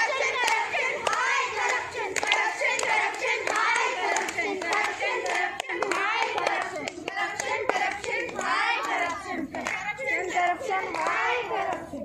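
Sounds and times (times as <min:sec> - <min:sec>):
children chanting together: 0:00.0 - 0:12.0
hand claps: 0:00.4 - 0:11.9.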